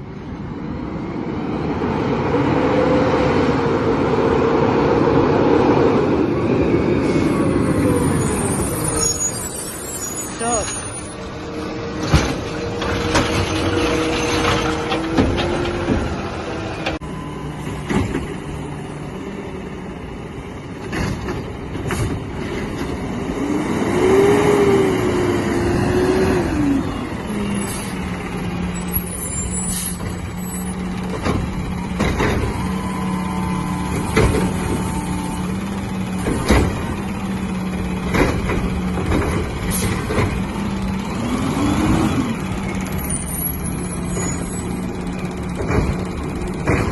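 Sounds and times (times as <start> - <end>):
truck diesel engine: 0.0 - 46.9.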